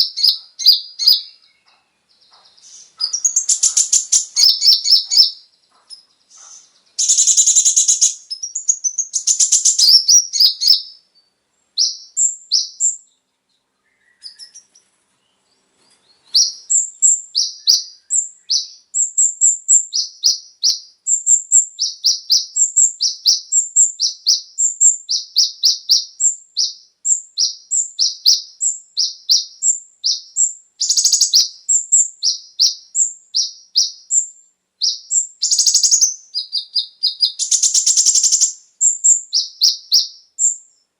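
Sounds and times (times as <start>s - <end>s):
bird trilling: 0.0s - 11.0s, 11.8s - 13.0s, 16.3s - 40.6s
bird chirping: 0.0s - 40.9s.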